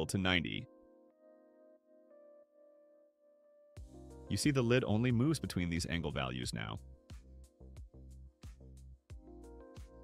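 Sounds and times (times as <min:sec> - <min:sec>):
faint soft background music: 0:00.0 - 0:10.0.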